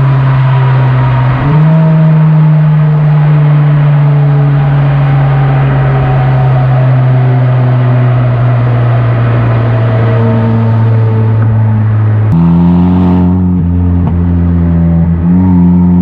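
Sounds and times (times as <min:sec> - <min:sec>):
car exhaust drone: 0:00.0 - 0:16.0.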